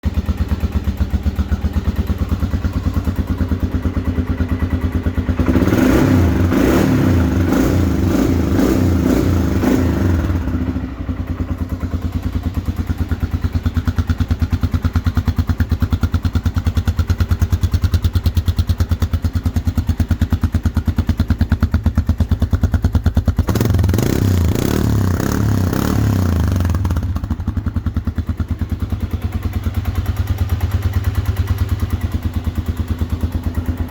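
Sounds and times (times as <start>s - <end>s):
atv engine idling and revving: 0.0s - 33.9s.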